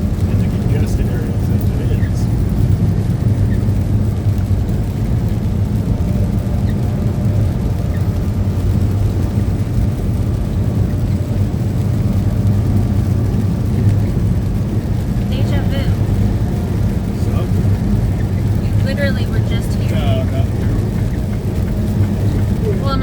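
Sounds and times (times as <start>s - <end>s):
truck engine and tyres droning: 0.0s - 23.0s.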